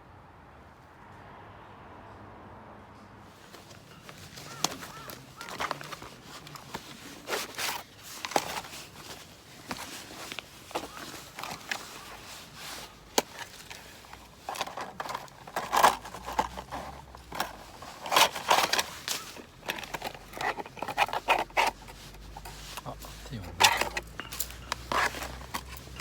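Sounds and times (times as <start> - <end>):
camping gear rustling and scraping: 3.3 - 26.0.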